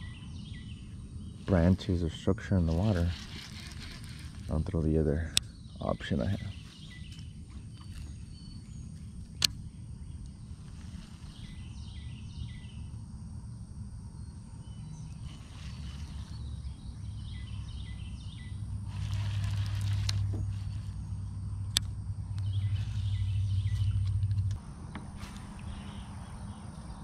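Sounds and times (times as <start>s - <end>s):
birds chirping: 0.0s - 27.0s
steady low rumble: 0.0s - 27.0s.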